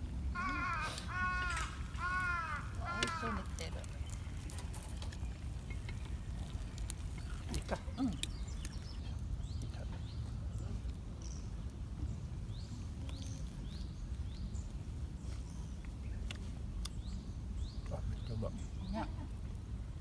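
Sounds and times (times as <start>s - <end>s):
low wind rumble: 0.0s - 20.0s
small bird chirping: 0.4s - 19.1s.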